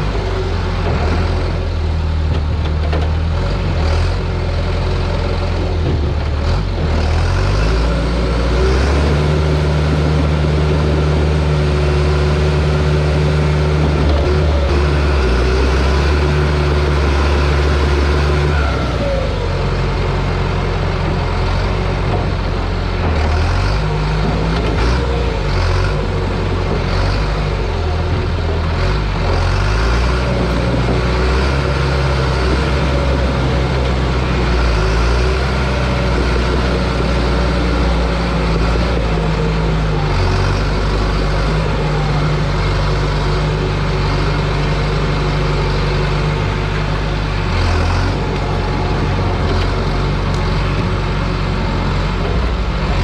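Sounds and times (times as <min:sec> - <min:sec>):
bulldozer diesel engine: 0:00.0 - 0:53.0.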